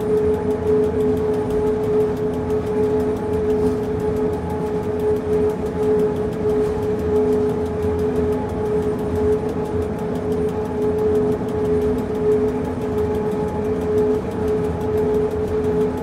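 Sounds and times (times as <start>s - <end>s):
fast regular ticking: 0.0s - 16.0s
railcar drive whine: 0.0s - 16.0s.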